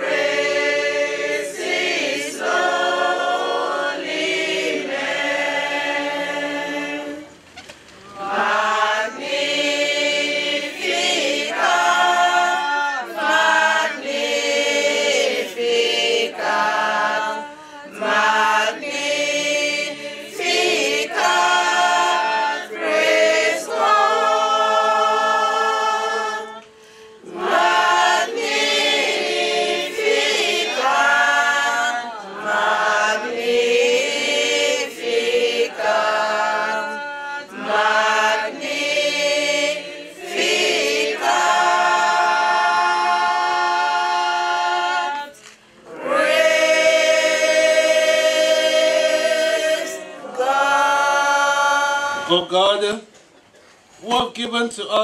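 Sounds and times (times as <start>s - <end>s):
choir singing a hymn: 0.0s - 52.4s.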